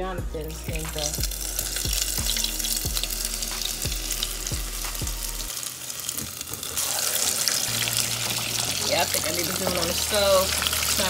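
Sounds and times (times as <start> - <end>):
hot oil sizzling and crackling: 0.7 - 11.0.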